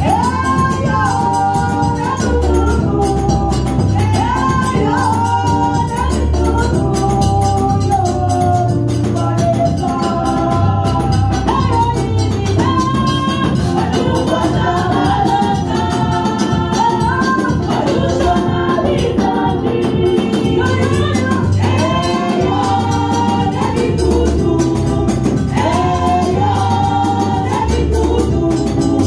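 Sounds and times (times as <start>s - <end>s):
bass line: 0.0s - 29.0s
percussion beat: 0.0s - 29.0s
women singing into microphones: 0.0s - 29.0s.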